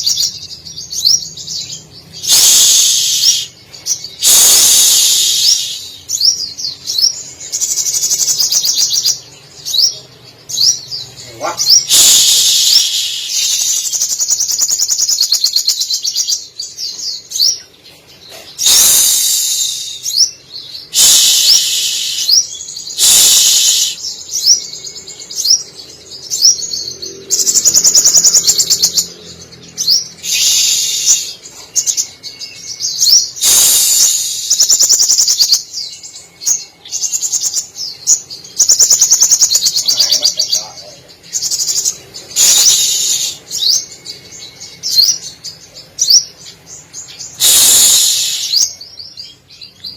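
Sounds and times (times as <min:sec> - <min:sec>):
bird singing trills and chattering: 0:00.0 - 0:49.9.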